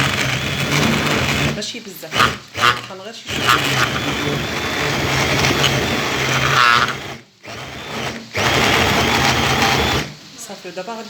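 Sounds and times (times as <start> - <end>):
electric blender pulsing: 0.0 - 10.2.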